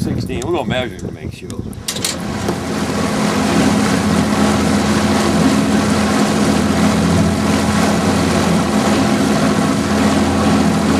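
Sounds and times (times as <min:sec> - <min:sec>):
water noise: 0:00.0 - 0:10.9
wind noise: 0:00.0 - 0:10.9
motorboat engine droning: 0:01.6 - 0:10.9.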